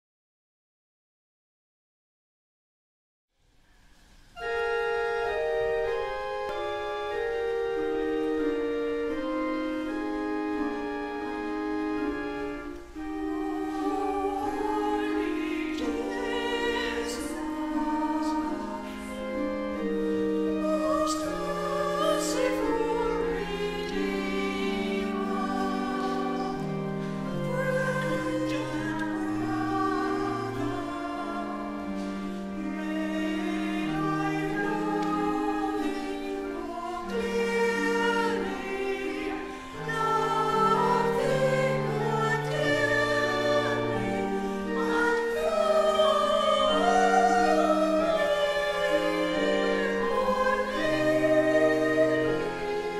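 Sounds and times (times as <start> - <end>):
choir singing: 4.4 - 52.9.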